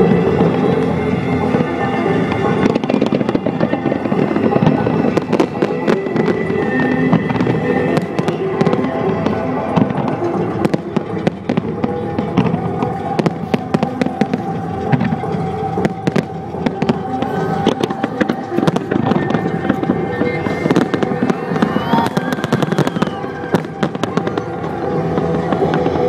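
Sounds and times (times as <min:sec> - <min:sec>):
fireworks bangs and crackles: 0:00.0 - 0:26.0
music with long held notes: 0:00.0 - 0:26.0.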